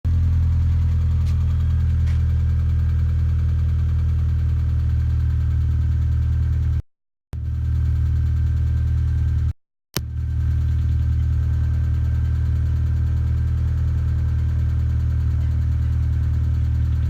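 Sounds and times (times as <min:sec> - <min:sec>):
car engine idling: 0:00.1 - 0:06.6, 0:07.4 - 0:17.0.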